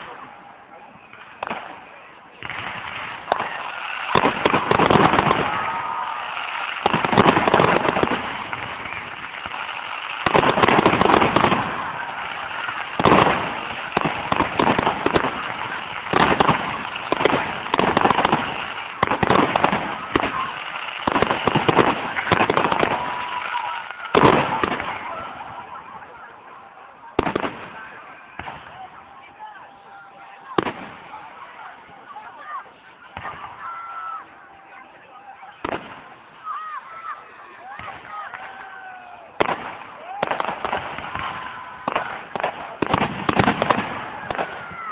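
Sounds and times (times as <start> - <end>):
fireworks crackling: 0.0 - 44.9.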